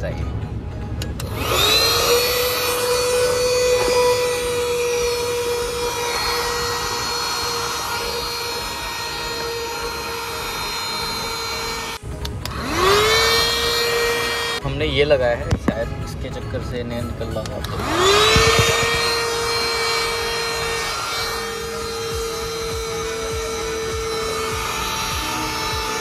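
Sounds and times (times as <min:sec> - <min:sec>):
handheld vacuum cleaner running: 0:01.2 - 0:14.6, 0:17.6 - 0:26.0.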